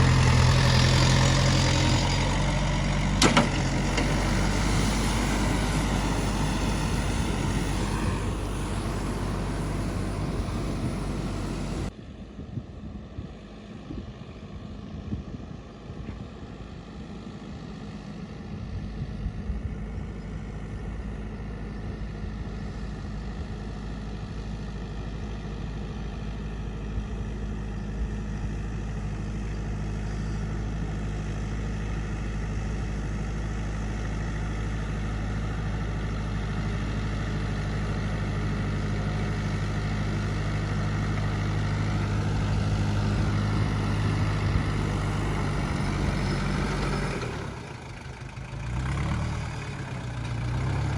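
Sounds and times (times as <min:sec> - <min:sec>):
tractor diesel engine running: 0:00.0 - 0:11.9, 0:16.7 - 0:50.9.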